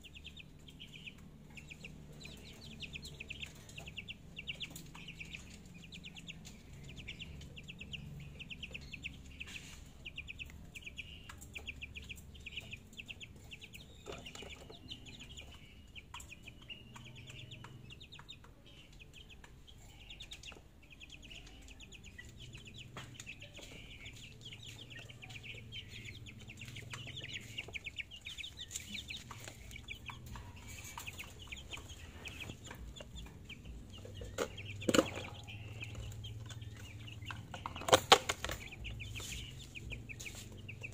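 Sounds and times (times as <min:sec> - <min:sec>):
chicks peeping and clucking: 0:00.0 - 0:40.9.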